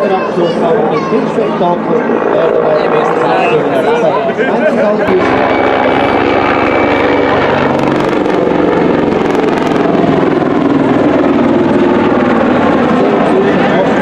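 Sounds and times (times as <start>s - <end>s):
helicopter rotor chopping: 0.0s - 14.0s
high turbine whine: 0.0s - 14.0s.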